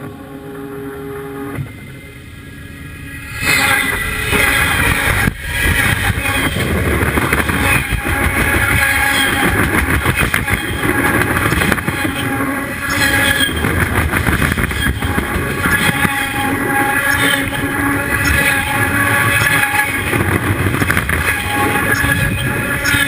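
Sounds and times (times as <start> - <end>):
train wheels rumbling and rattling: 0.0 - 23.0
high metallic ringing: 1.6 - 6.8, 7.5 - 13.9, 14.6 - 20.4, 21.1 - 23.0.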